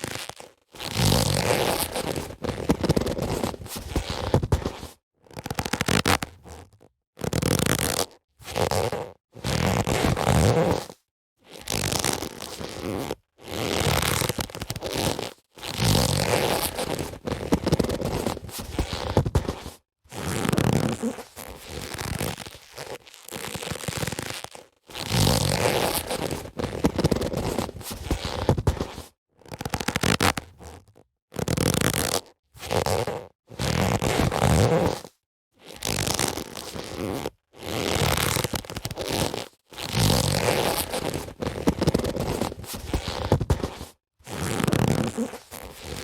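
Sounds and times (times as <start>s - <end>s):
boxing gloves rubbing: 0.8s - 6.6s, 7.2s - 30.8s, 31.4s - 46.0s.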